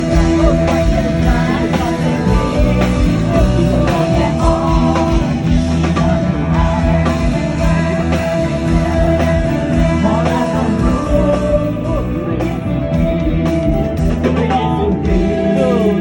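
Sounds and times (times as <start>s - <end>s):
bass: 0.0s - 16.0s
electric guitar: 0.0s - 16.0s
steady drum beat: 0.0s - 16.0s.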